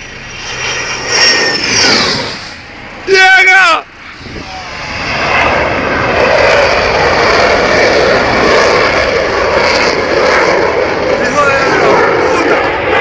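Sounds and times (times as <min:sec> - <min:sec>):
fighter jet low pass: 0:00.0 - 0:13.0.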